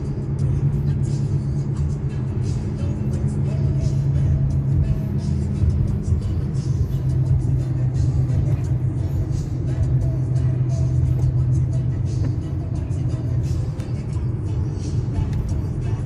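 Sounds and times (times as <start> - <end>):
car road and engine rumble: 0.0 - 16.0
music playing: 0.0 - 16.0.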